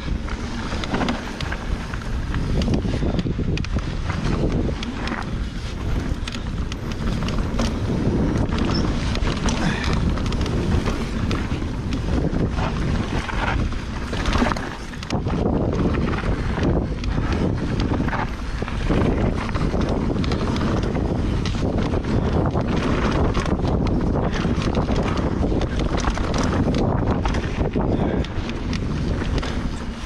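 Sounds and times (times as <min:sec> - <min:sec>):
bike rattles and knocks: 0:00.0 - 0:30.0
bike tyre noise: 0:00.0 - 0:30.0
wind rushing over microphone: 0:00.0 - 0:30.0.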